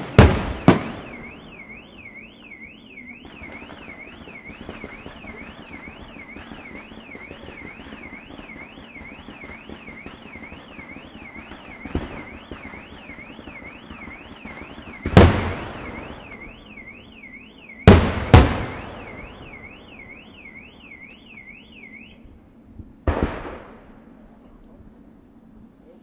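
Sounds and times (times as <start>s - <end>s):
warbling electronic alarm: 0.0s - 22.3s.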